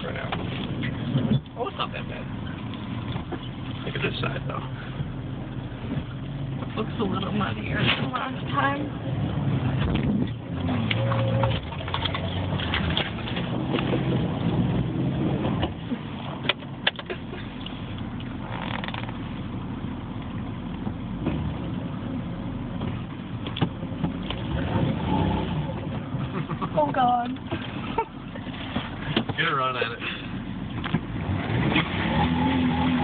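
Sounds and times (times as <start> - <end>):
car engine running at low speed: 0.0 - 33.0.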